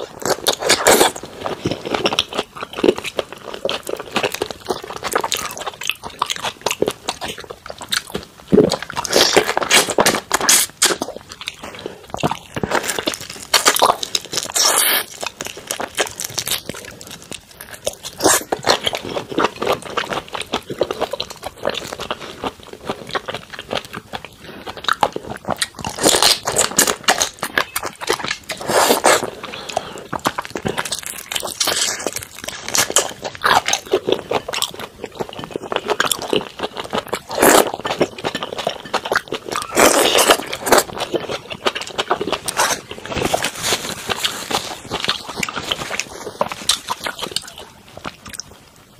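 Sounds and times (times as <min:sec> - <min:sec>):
crunchy biting and chewing: 0:00.0 - 0:48.6.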